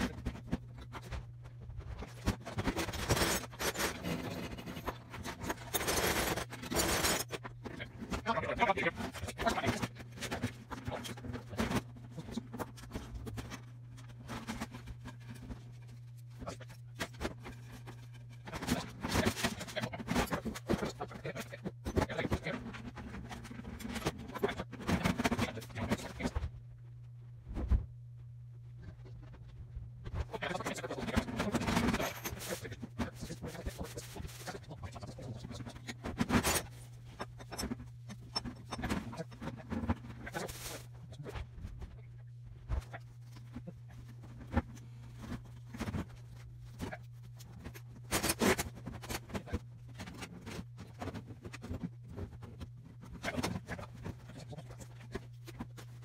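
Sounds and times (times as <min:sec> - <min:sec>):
steady low hum: 0:00.0 - 0:56.0
metal and plastic parts clattering: 0:01.8 - 0:26.3, 0:30.2 - 0:41.4, 0:42.8 - 0:56.0.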